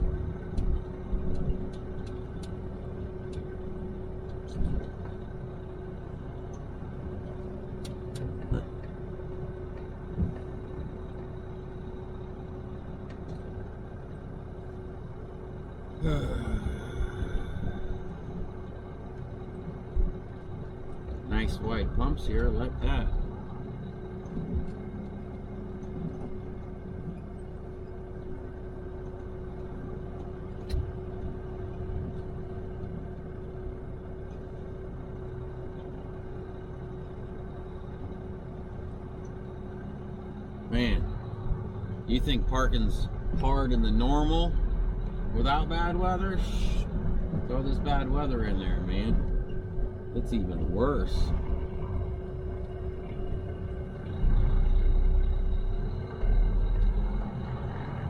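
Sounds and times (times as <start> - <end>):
truck engine rumble: 0.0 - 58.0.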